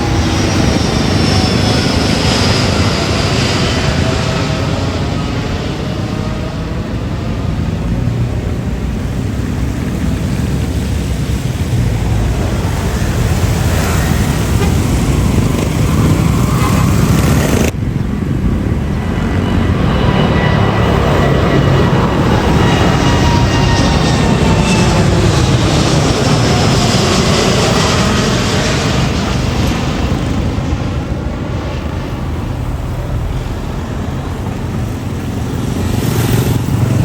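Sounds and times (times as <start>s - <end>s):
jet engines rumbling: 0.0s - 37.0s
thin steady engine whine: 0.0s - 37.0s.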